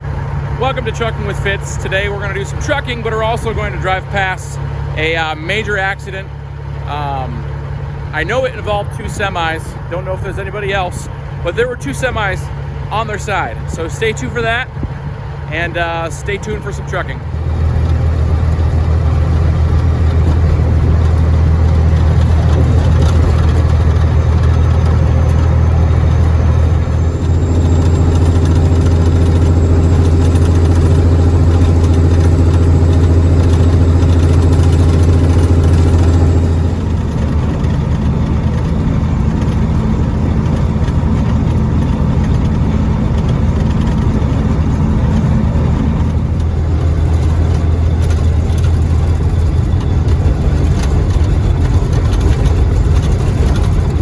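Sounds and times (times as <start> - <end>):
truck diesel engine drone: 0.0 - 54.0.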